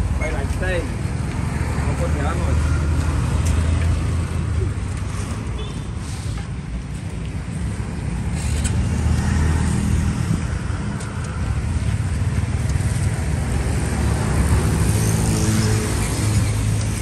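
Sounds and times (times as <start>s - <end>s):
road noise: 0.0s - 17.0s
vehicle engines in traffic: 0.0s - 17.0s.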